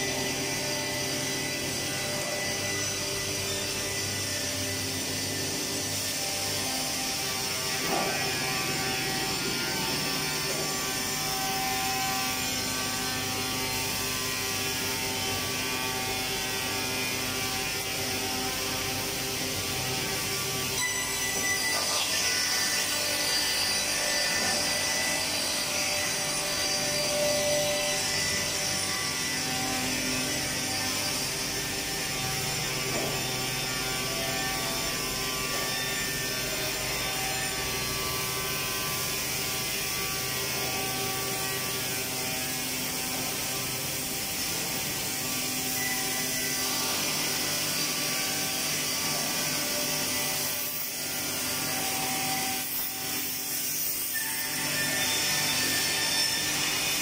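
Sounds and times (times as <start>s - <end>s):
woodworking machinery humming and whining: 0.0s - 57.0s.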